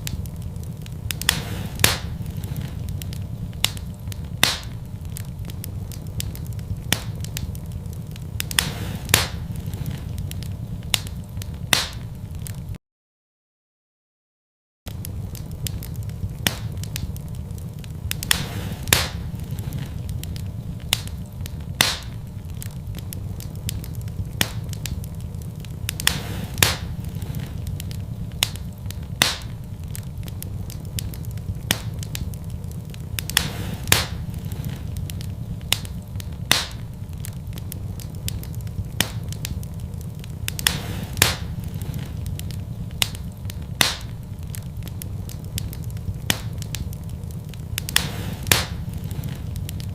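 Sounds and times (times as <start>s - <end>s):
fire crackling and popping: 0.0s - 12.8s, 14.9s - 49.9s
low rumble of flames: 0.0s - 12.8s, 14.9s - 49.9s.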